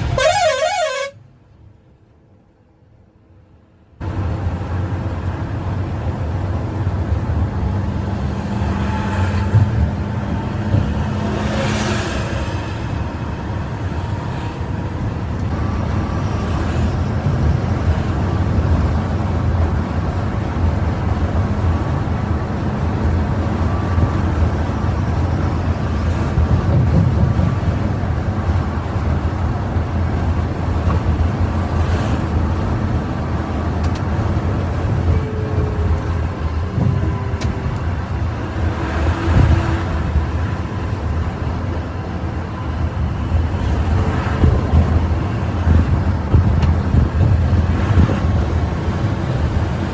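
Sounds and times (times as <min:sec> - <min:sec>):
bus engine rumble: 0:00.0 - 0:49.9
road noise: 0:00.0 - 0:49.9.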